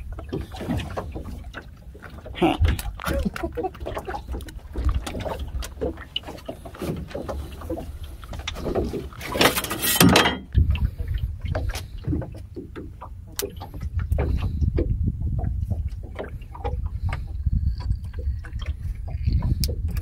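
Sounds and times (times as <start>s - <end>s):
clicks and knocks of line hauling: 0.0s - 20.0s
wind and water rumble: 0.0s - 20.0s.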